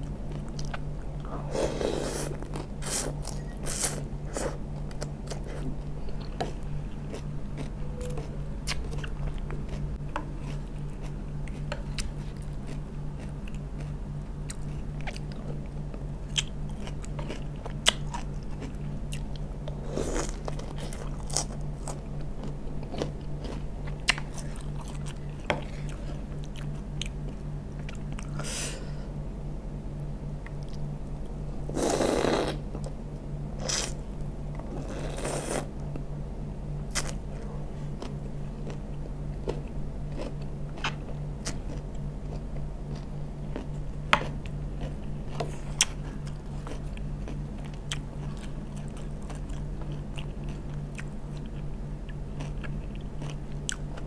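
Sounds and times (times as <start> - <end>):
chewing crunchy vegetables: 0.0 - 28.5, 30.4 - 31.2, 36.9 - 54.0
steady low hum: 0.0 - 54.0.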